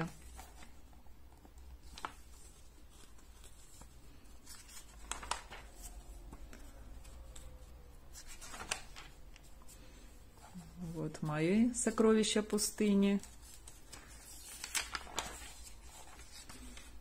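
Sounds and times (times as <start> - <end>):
magazine pages turning: 0.0 - 17.0.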